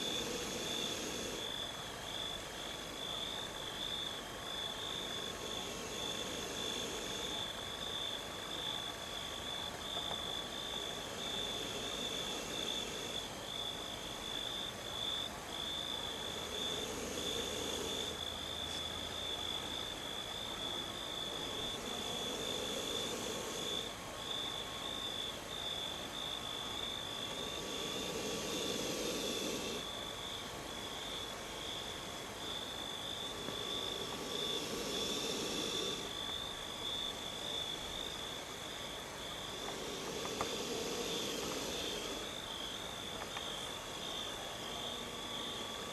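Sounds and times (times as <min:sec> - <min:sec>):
crickets chirping: 0:00.0 - 0:45.9
faint hiss: 0:00.0 - 0:45.9
insects trilling: 0:00.0 - 0:45.9.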